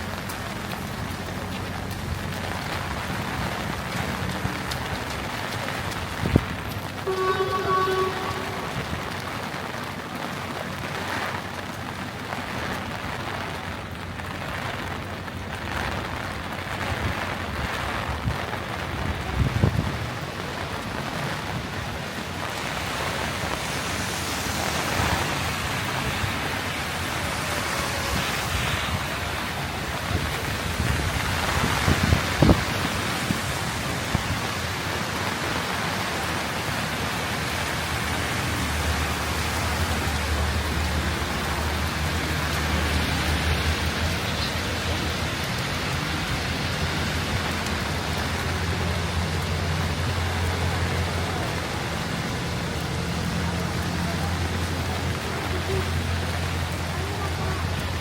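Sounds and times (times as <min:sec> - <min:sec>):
heavy rain on street: 0:00.0 - 0:58.0.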